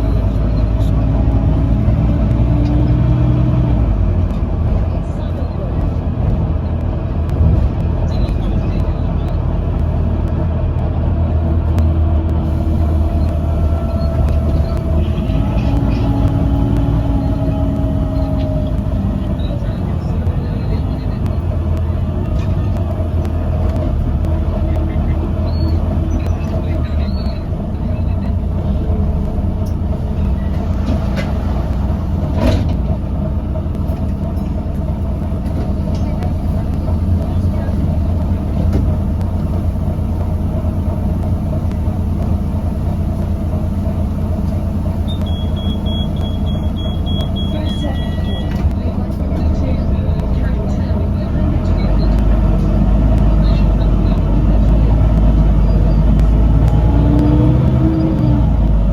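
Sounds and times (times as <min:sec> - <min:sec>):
bus engine rumble: 0:00.0 - 0:58.9.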